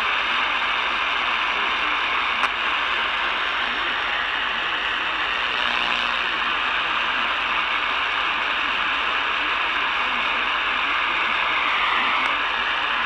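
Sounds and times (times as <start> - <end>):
radio static hiss and crackle: 0.0 - 13.0
weak radio station: 0.0 - 13.0.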